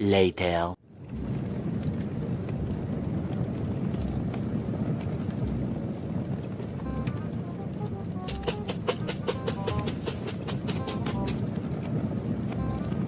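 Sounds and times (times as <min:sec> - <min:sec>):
car engine and road rumble: 0:00.9 - 0:13.0.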